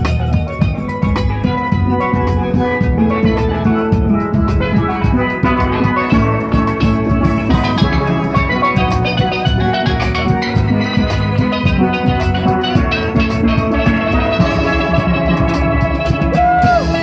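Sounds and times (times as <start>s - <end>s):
steel band playing: 0.0s - 17.0s.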